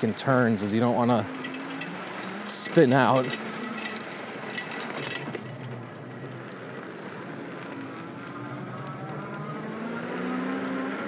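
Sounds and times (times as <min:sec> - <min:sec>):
tire and wind noise: 0:00.0 - 0:11.0
electric motor whine: 0:01.3 - 0:11.0.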